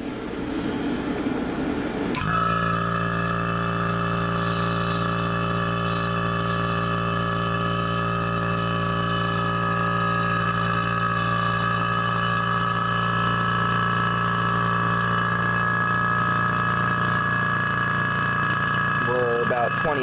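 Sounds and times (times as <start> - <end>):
electric vacuum pump humming: 0.0 - 20.0.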